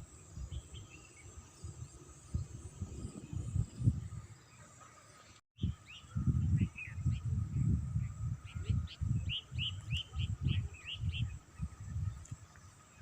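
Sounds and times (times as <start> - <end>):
wind buffeting microphone: 0.0 - 4.4, 5.6 - 12.7
grasshoppers and crickets chirring: 0.0 - 13.0.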